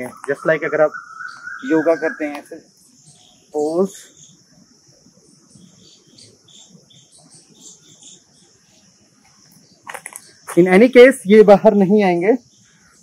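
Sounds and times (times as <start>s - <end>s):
bird chirps: 0.0s - 13.0s
high insect drone: 0.0s - 13.0s.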